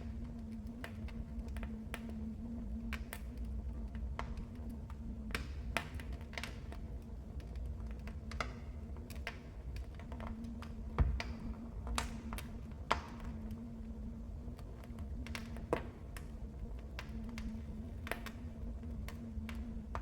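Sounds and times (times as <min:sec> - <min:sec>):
fire popping and snapping: 0:00.0 - 0:20.0
wood fire crackling: 0:00.0 - 0:20.0.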